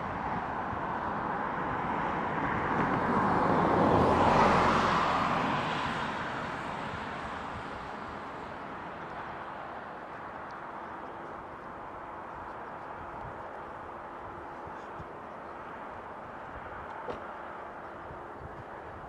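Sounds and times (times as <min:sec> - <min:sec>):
road vehicle passing by: 0:00.0 - 0:19.0.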